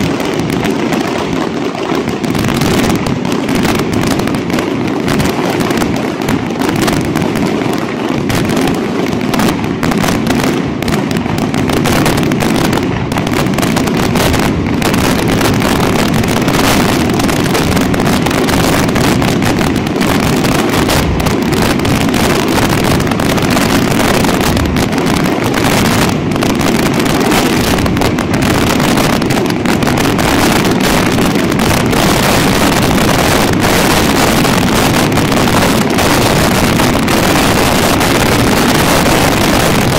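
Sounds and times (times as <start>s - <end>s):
firework shells bursting: 0.0s - 39.9s.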